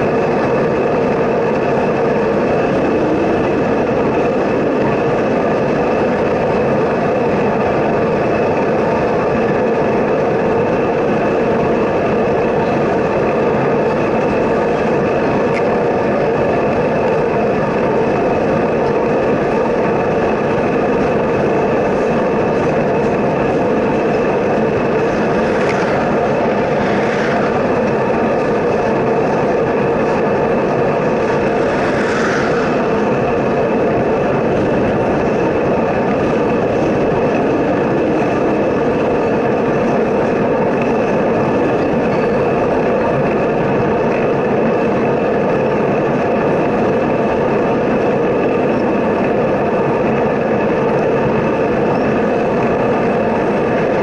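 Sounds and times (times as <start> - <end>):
freight train rumbling: 0.0 - 54.0
wind noise: 0.0 - 54.0.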